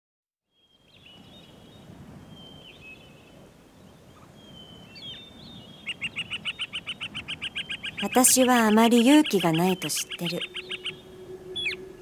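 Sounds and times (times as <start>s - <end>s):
birds chirping: 0.5s - 12.0s.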